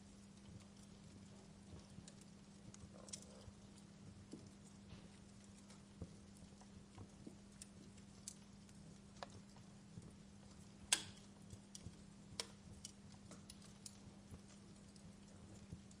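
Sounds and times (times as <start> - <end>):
crackling wood fire: 0.0 - 16.0
steady low hum: 0.0 - 16.0.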